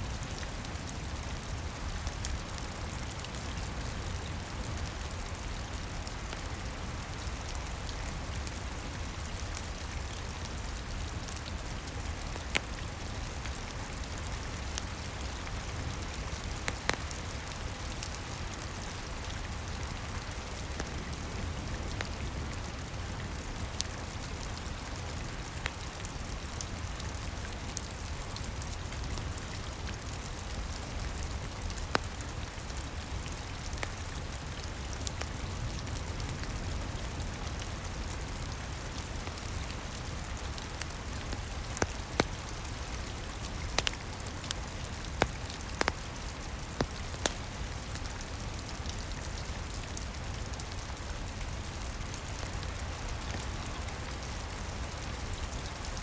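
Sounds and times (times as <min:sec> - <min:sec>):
steady rain: 0:00.0 - 0:56.0
wood fire crackling: 0:00.7 - 0:56.0.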